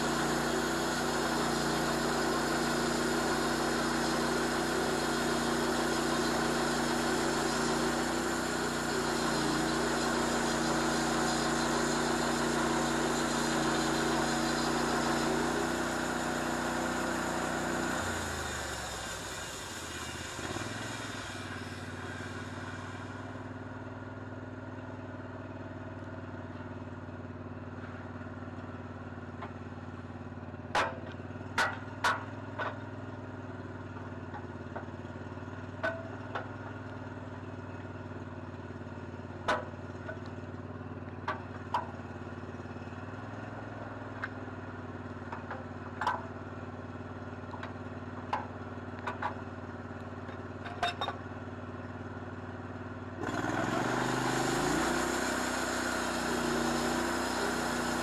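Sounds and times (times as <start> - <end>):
sawmill engine idling: 0.0 - 58.0.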